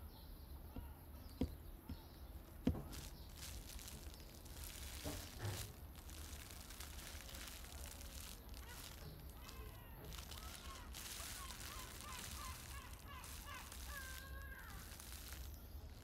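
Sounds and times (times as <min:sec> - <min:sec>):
soft footsteps on paving stones: 0:00.6 - 0:16.0
soft rustling: 0:01.3 - 0:16.0.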